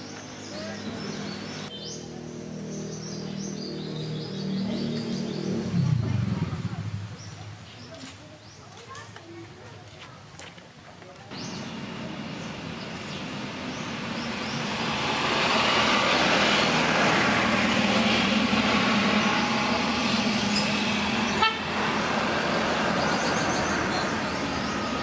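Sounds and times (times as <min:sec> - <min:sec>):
vehicle passing by: 0:00.5 - 0:08.0, 0:11.3 - 0:25.0.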